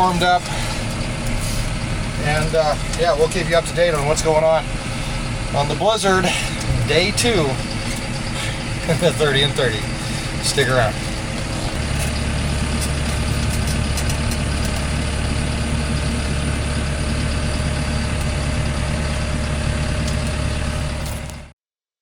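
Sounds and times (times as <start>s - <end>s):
vehicle engine idling: 0.0s - 21.5s.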